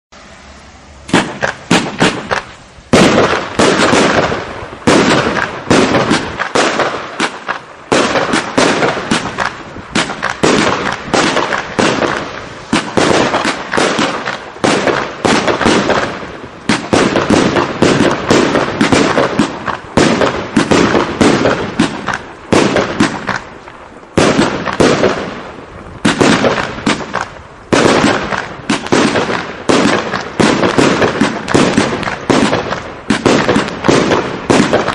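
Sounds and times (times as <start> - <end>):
firework cake bangs: 1.1 - 23.5, 24.1 - 34.9.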